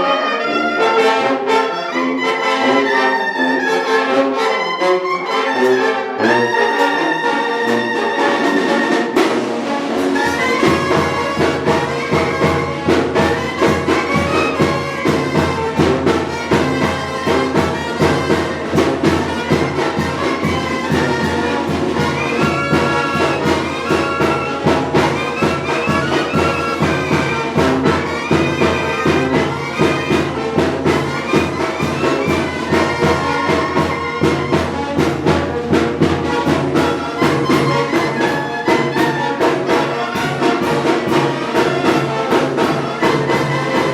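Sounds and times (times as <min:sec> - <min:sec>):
brass band playing: 0:00.0 - 0:43.9
steady drum beat: 0:07.7 - 0:43.9.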